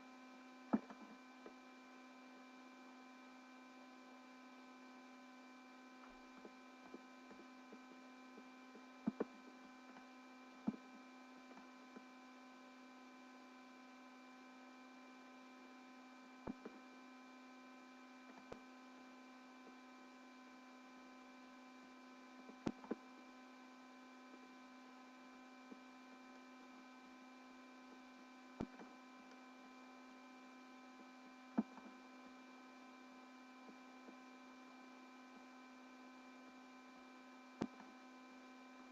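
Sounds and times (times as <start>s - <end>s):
faint steady tonal hum: 0.0s - 38.9s.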